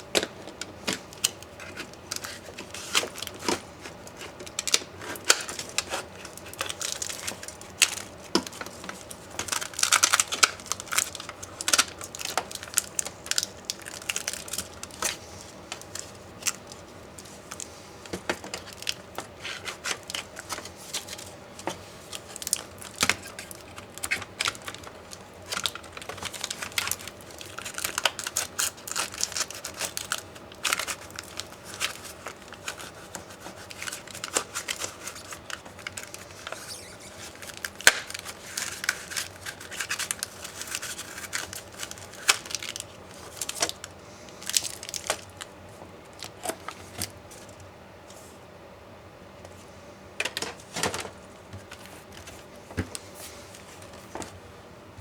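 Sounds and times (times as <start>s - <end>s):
crinkling rustling scraping: 0.2s - 48.4s, 49.5s - 54.4s.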